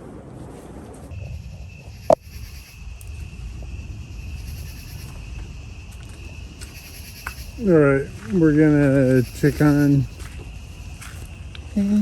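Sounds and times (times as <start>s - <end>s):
low rumble: 0.0s - 11.8s
high insect trill: 1.1s - 12.0s.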